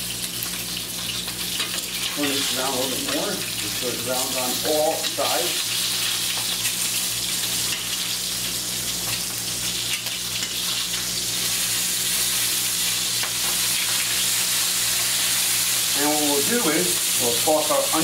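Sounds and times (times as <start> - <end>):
sausages sizzling in a frying pan: 0.0 - 18.0.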